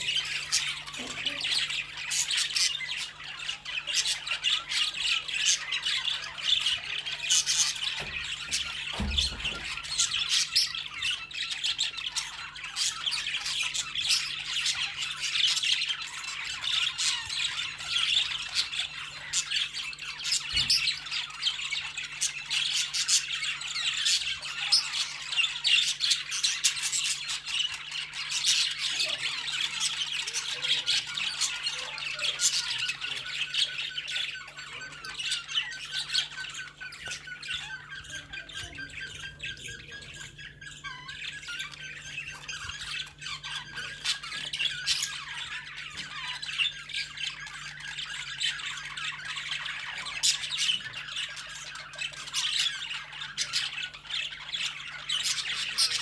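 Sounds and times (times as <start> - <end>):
cockatiels chirping and squawking: 0.0 - 56.0.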